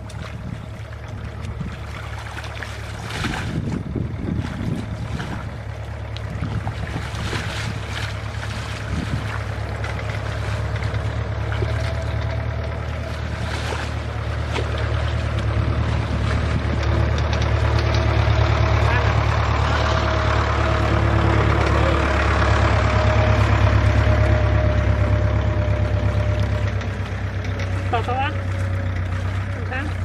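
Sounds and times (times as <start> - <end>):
small engine running: 0.9 - 30.0.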